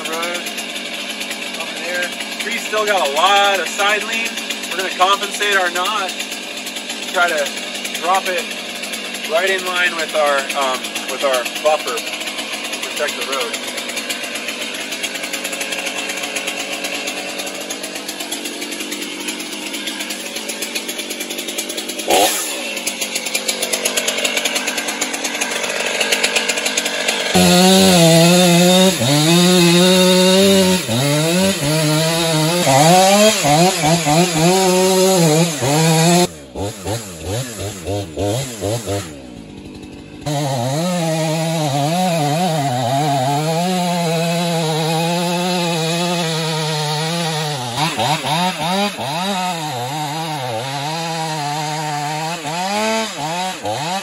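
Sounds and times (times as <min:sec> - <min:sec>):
chainsaw idling and cutting wood: 0:00.0 - 0:54.0.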